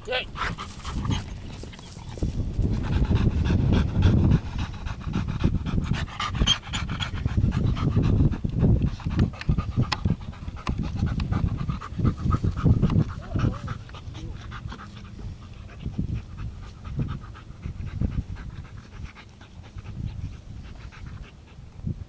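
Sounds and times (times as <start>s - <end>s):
dog panting: 0.0s - 21.7s.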